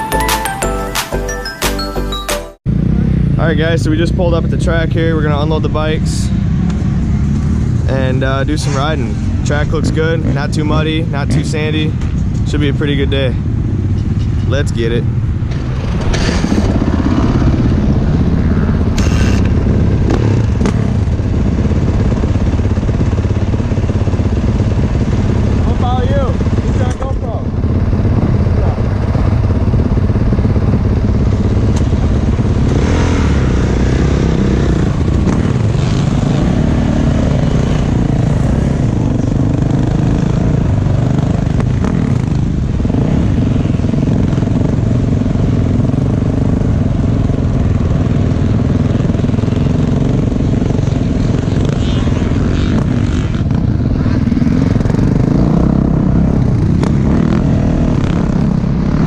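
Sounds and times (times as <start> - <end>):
dirt bike engine revving: 2.7 - 11.8, 12.6 - 59.0.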